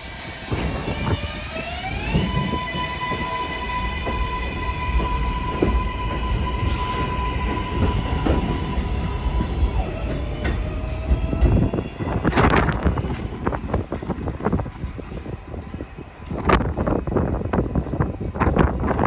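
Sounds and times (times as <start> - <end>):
low rumble of train cars: 0.0 - 19.0
subway train propulsion whine: 0.0 - 19.0.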